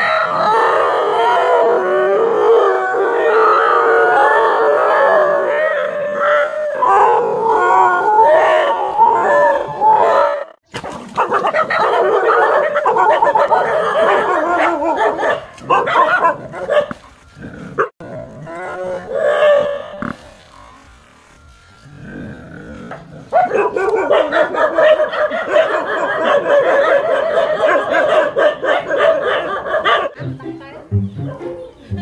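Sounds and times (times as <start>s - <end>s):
dogs barking and howling: 0.0s - 20.5s, 22.0s - 31.8s.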